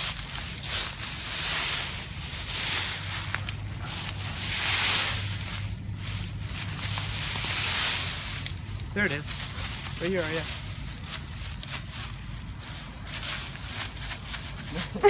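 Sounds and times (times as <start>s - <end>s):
footsteps crunching through dry leaves: 0.0s - 15.0s.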